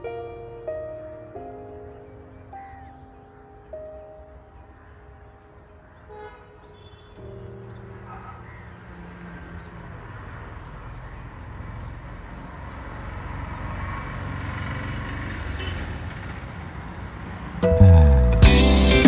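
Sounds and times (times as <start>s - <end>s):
traffic rumble: 0.0s - 18.5s.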